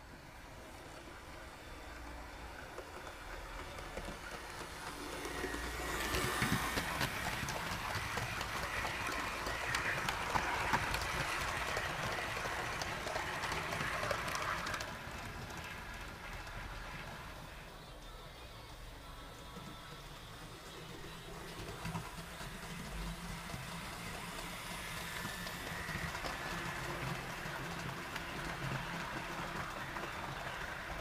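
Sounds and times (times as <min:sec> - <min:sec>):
model train wheels clicking: 0:00.0 - 0:31.0.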